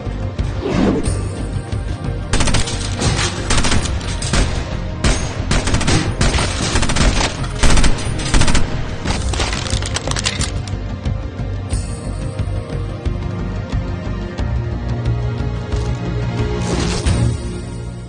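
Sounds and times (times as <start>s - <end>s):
film score music: 0.0s - 18.0s.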